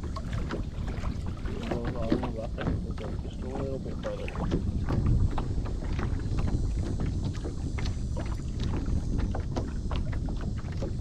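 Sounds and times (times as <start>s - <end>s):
waves slapping boat hull: 0.0s - 11.0s
wind buffeting microphone: 0.0s - 11.0s.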